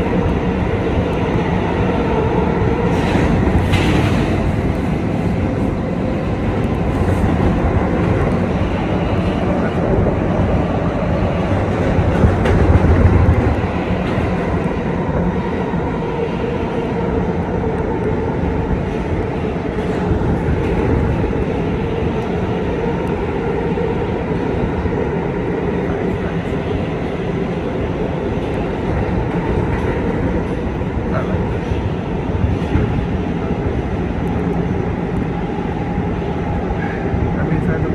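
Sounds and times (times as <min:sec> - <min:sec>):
subway car wheels on rail: 0:00.0 - 0:37.9.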